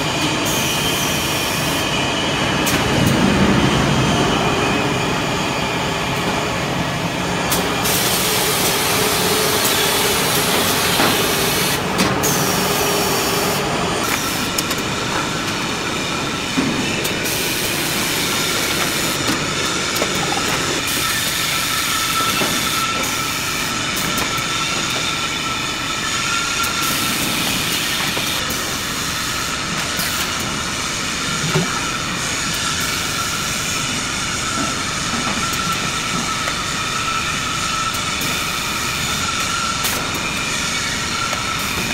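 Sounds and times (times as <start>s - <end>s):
machine and conveyor noise: 0.0s - 41.9s.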